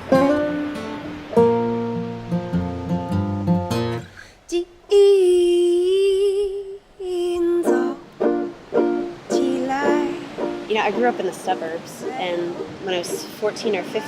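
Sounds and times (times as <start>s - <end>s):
acoustic string music: 0.0s - 4.7s, 5.5s - 14.0s.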